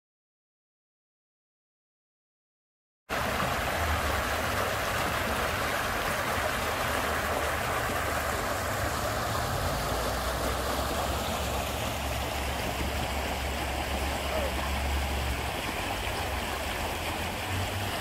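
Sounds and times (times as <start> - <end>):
water gushing from drain pipe: 3.1 - 18.0.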